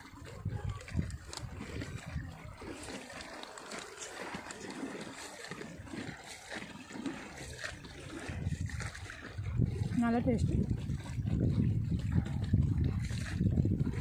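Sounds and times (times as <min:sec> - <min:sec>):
water lapping and trickling: 0:00.0 - 0:14.0.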